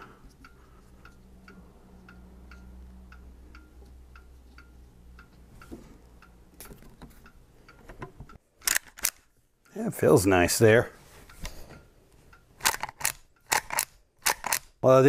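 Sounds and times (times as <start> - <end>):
wall clock ticking: 0.0 - 8.4, 9.6 - 12.6, 13.2 - 15.0.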